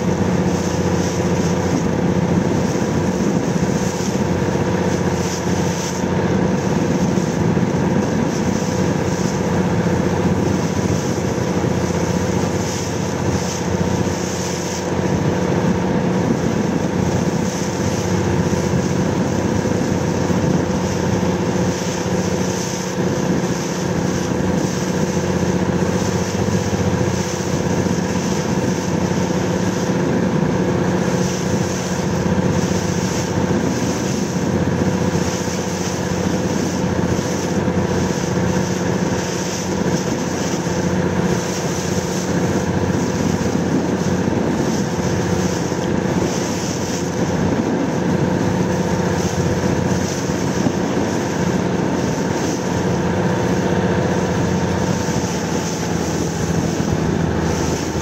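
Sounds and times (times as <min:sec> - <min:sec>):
motorboat engine drone: 0:00.0 - 0:58.0
wind and water hiss: 0:00.0 - 0:58.0.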